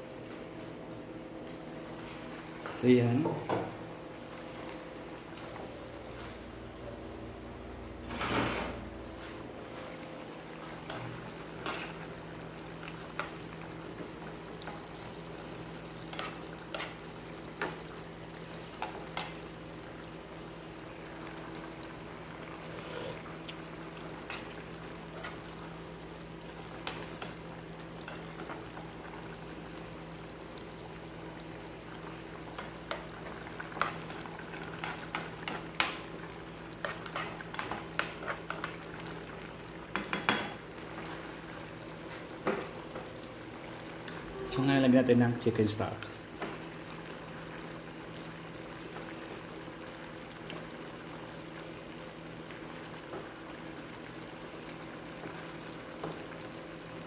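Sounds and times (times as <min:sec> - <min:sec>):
sauce simmering in frying pan: 0:09.6 - 0:57.0.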